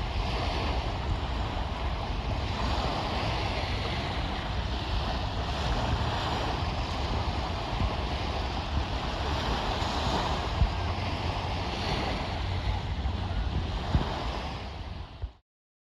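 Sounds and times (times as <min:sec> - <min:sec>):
water rushing: 0:00.0 - 0:15.2
wind buffeting microphone: 0:00.0 - 0:15.4.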